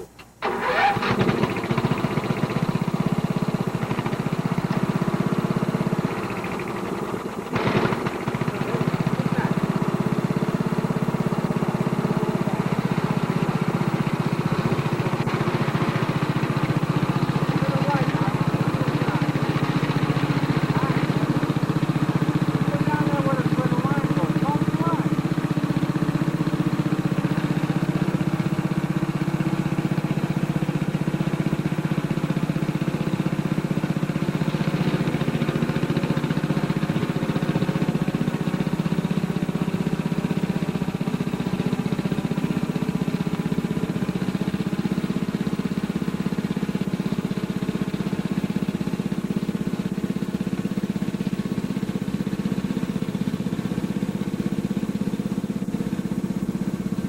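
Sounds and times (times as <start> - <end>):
riding lawnmower engine running: 0.0 - 57.0.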